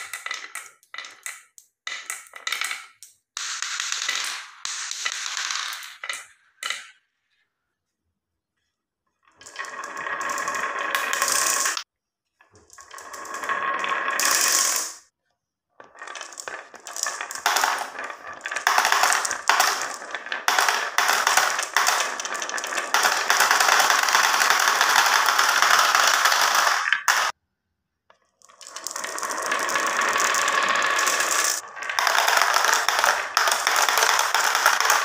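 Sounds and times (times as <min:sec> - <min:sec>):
marbles rattling down wooden run: 0:00.0 - 0:06.9, 0:09.4 - 0:11.9, 0:12.5 - 0:15.1, 0:15.8 - 0:27.4, 0:28.4 - 0:35.0.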